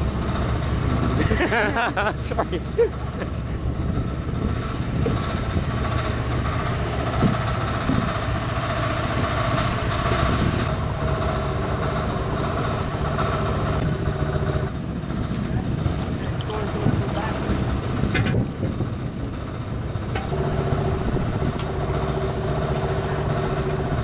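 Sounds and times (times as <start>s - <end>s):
boat engine humming: 0.0s - 24.0s
open sea noise: 0.0s - 24.0s.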